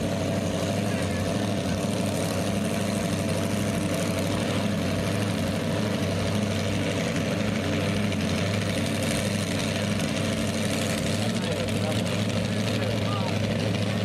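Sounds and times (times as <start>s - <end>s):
big engine idling: 0.0s - 14.0s.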